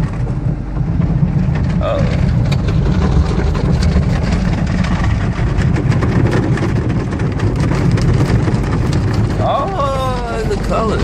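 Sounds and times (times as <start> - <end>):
car wash low rumble: 0.0 - 11.0
cloth strips and water slapping car: 0.0 - 11.0.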